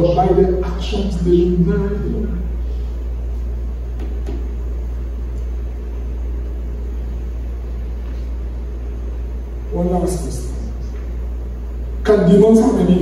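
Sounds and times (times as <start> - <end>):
background room hiss: 0.0 - 13.0
steady low hum: 0.0 - 13.0.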